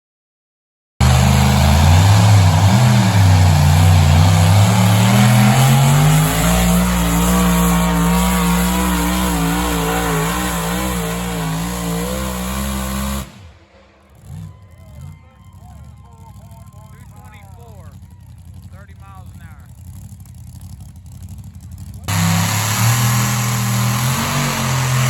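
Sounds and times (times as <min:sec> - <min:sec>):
vehicle engine at high revs: 0:01.0 - 0:25.0.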